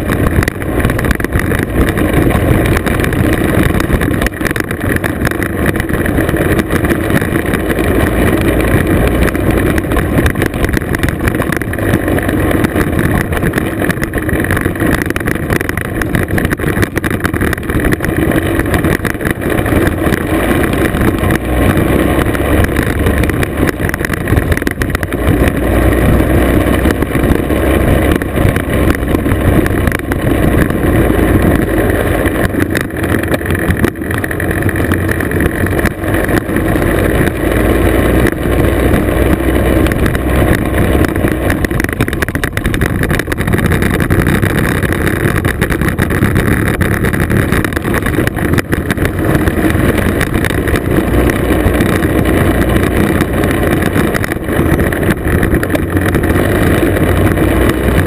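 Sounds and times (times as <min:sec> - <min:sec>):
two-stroke scooter engine running: 0:00.0 - 0:58.0
tyres rolling on gravel: 0:00.0 - 0:58.0
wind noise on microphone: 0:00.0 - 0:58.0.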